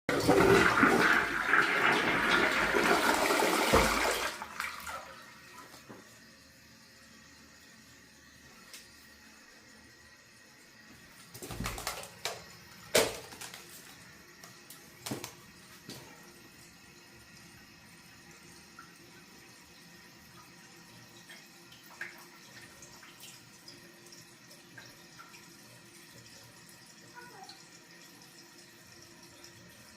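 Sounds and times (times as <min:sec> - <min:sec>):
toilet flushing: 0:00.1 - 0:29.9
faint water trickling: 0:04.4 - 0:29.9.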